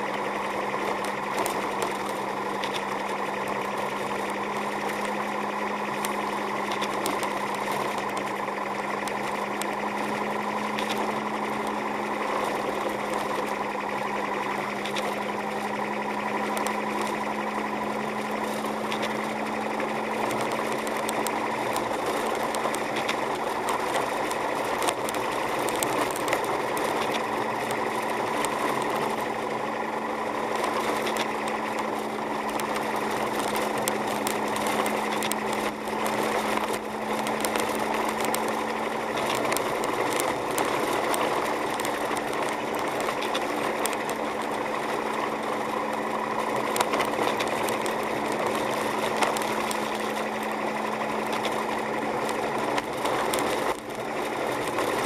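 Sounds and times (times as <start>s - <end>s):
car engine hum: 0.0s - 55.0s
light ticks and clicks: 0.0s - 55.0s.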